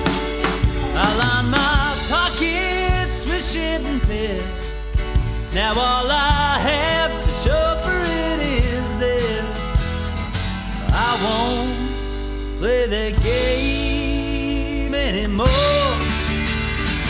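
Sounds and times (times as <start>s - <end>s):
drums keeping beat: 0.0s - 17.0s
pedal steel guitar lead: 0.0s - 17.0s.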